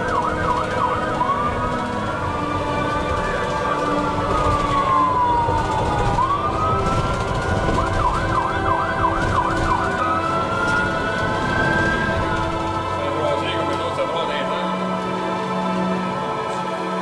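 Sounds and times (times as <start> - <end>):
ambulance siren wailing and yelping: 0.0 - 17.0
vehicle road rumble: 0.0 - 17.0.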